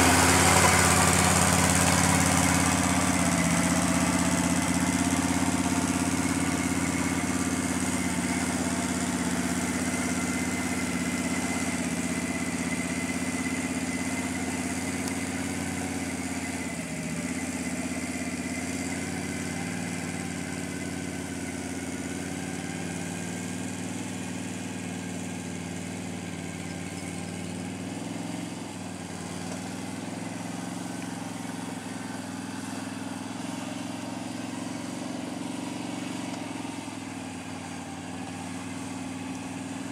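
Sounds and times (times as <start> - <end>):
quad engine running at low speed: 0.0 - 39.9.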